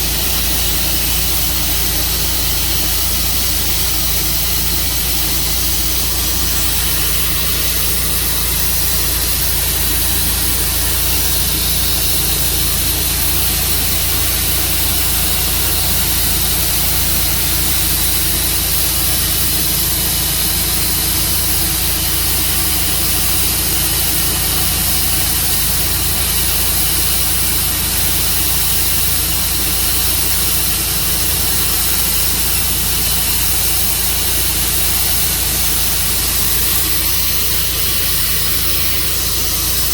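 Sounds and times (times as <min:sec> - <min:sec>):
saw blade cutting log hiss: 0:00.0 - 0:39.9
sawmill engine hum: 0:00.0 - 0:39.9.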